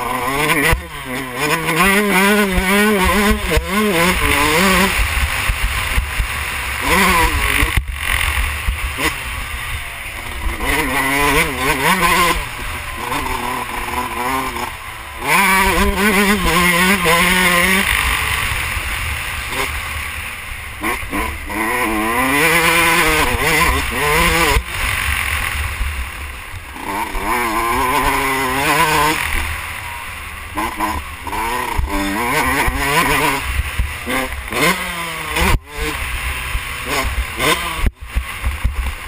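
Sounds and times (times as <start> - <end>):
motocross engine at high revs: 0.0 - 39.0.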